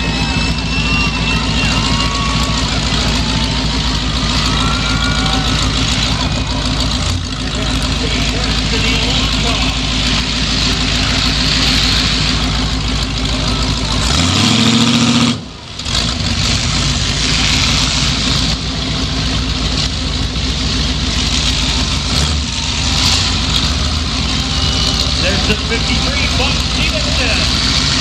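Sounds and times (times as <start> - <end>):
loud car engine idling and revving: 0.0 - 28.0.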